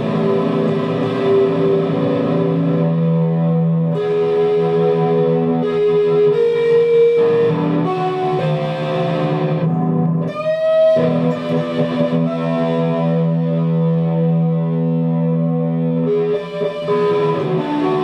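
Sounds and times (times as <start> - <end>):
distorted electric guitar: 0.0 - 18.0.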